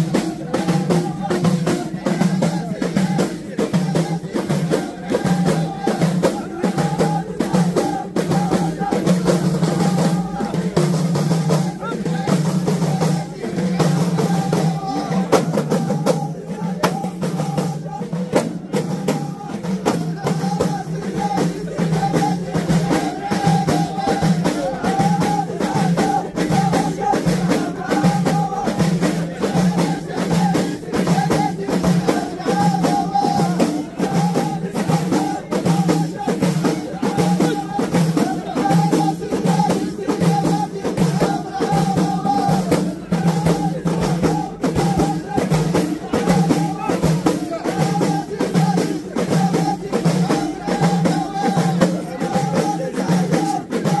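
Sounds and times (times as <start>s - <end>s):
frame drums beating: 0.0s - 54.0s
men singing in chorus: 0.0s - 54.0s.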